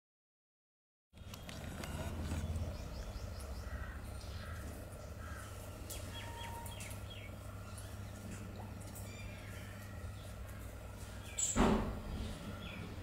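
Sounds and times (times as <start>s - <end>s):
bulbuls chirping: 1.3s - 13.0s.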